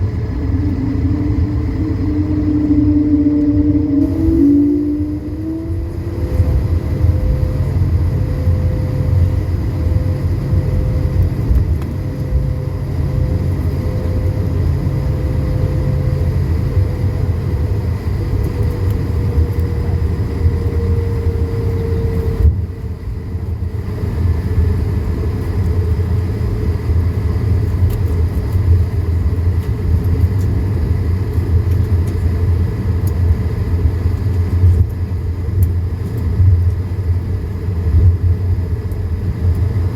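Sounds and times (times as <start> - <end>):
jet engines low rumble: 0.0 - 39.9
wheels rolling on taxiway: 0.0 - 39.9.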